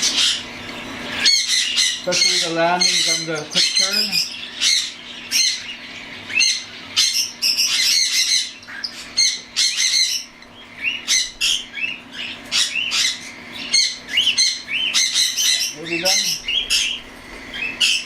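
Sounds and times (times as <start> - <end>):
cockatiel chicks squawking: 0.0 - 18.0.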